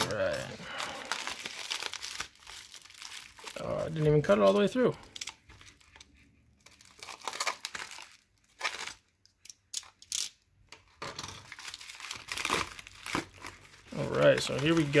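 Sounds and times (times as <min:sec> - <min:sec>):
plastic crinkling and tearing: 0:00.0 - 0:09.1, 0:11.4 - 0:15.0.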